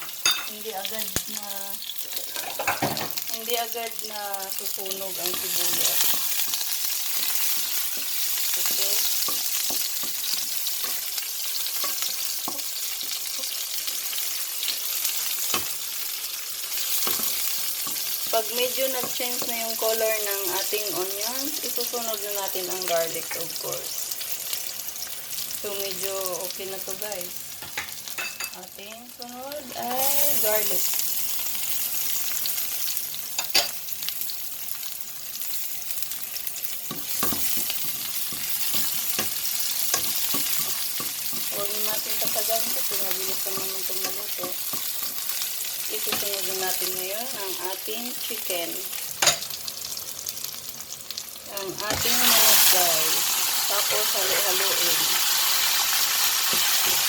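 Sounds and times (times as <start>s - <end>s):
onions sizzling in frying pan: 0.0s - 57.0s.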